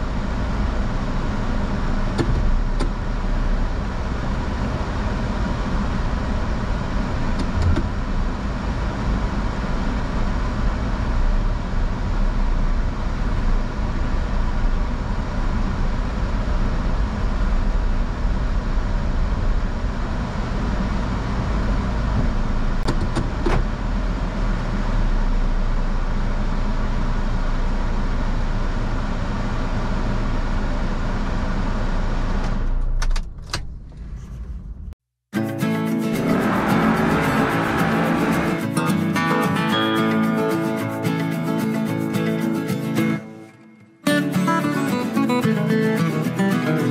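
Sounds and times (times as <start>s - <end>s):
car engine: 0.0s - 35.0s, 35.6s - 42.8s
road noise: 0.0s - 46.9s.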